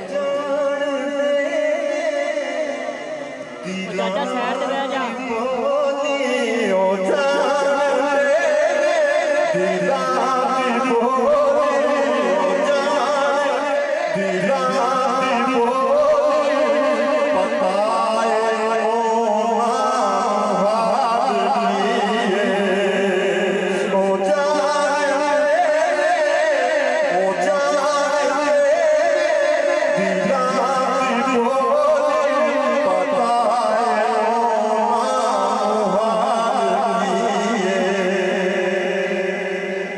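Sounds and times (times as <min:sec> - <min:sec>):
man singing devotional song: 0:00.0 - 0:39.9.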